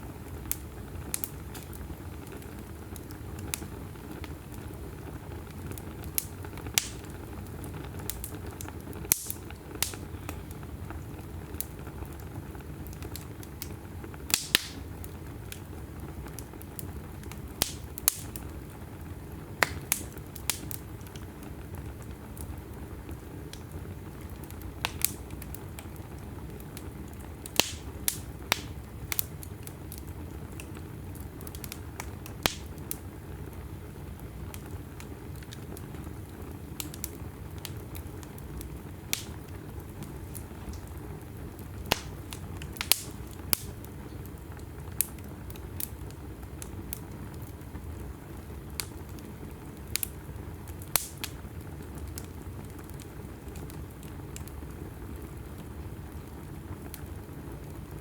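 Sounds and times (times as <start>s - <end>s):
burning logs crackling and popping: 0.0s - 58.0s
fire flames rustling: 0.0s - 58.0s.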